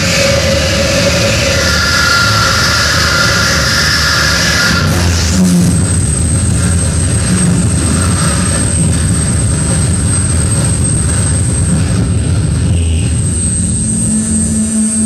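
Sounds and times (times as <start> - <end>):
dense low rumble: 0.0 - 15.0
harsh noise music: 0.0 - 15.0
thin high whine: 0.0 - 15.0.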